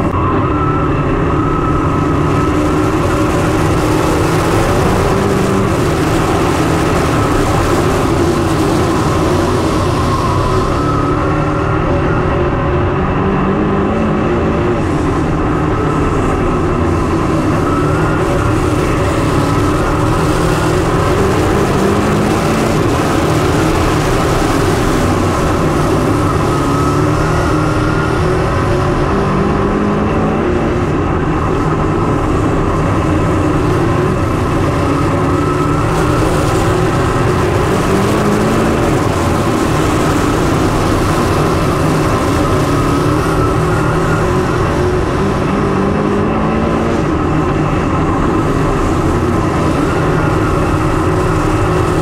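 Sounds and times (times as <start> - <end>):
race car engines running hard: 0.0 - 52.0.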